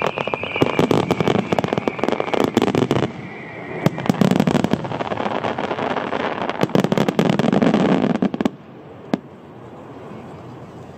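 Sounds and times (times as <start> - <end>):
fireworks bangs and crackling: 0.0 - 10.1.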